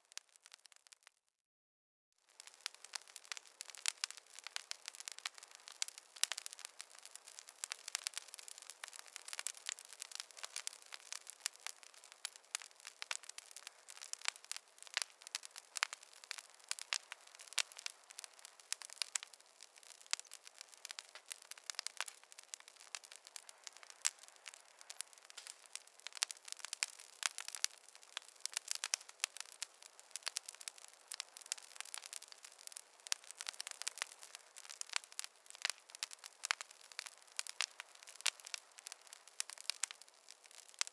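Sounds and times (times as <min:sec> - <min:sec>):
campfire crackling: 0:00.0 - 0:01.1, 0:02.2 - 0:40.9.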